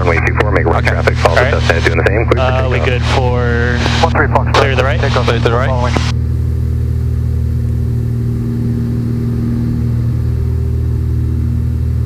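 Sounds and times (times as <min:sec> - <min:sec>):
plane engine and propeller droning: 0:00.0 - 0:12.0.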